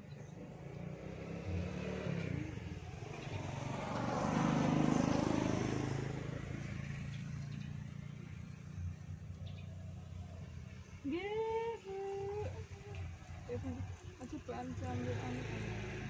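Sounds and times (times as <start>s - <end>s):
vehicle driving past: 0.0s - 11.0s, 12.4s - 16.0s.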